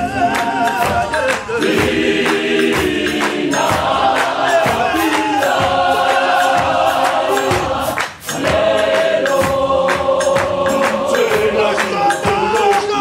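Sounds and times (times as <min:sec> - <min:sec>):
gospel choir singing in harmony: 0:00.0 - 0:13.0
steady beat: 0:00.0 - 0:13.0.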